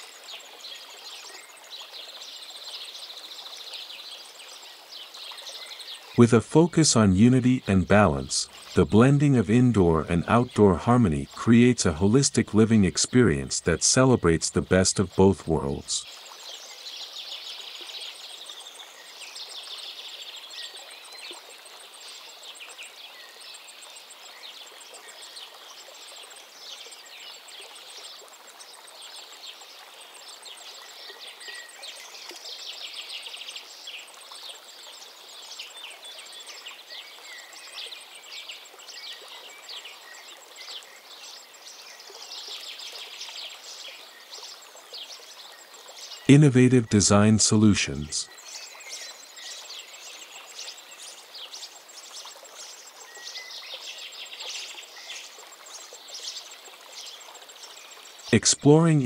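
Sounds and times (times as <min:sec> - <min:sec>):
small birds chirping: 0:07.2 - 0:46.4, 0:47.2 - 0:58.9.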